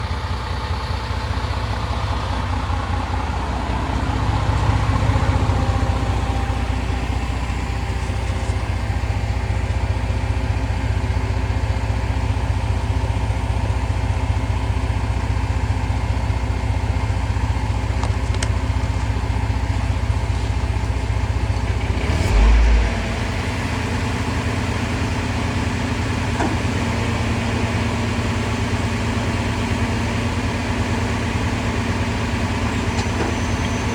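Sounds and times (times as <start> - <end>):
truck engine running: 0.0 - 33.9.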